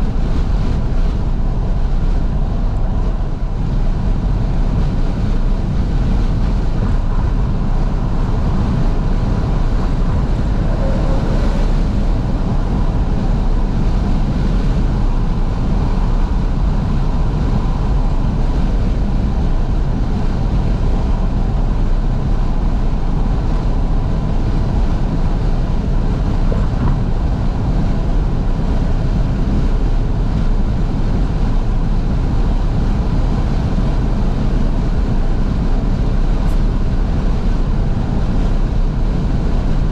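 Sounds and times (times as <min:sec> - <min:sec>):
road and engine noise: 0:00.0 - 0:39.9
wind buffeting through car windows: 0:00.0 - 0:39.9.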